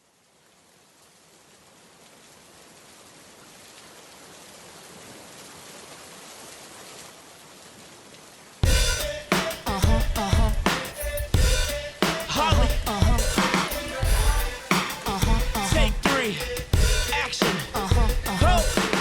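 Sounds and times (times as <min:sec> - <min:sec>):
steady rain hissing: 0:00.0 - 0:19.0.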